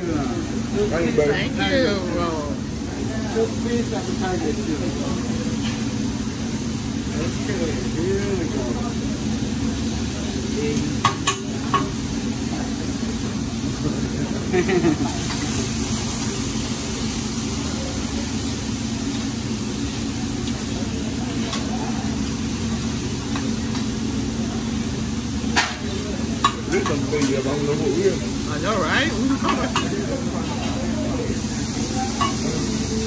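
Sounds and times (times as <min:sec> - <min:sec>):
chicken sizzling on griddle: 0:00.0 - 0:33.0.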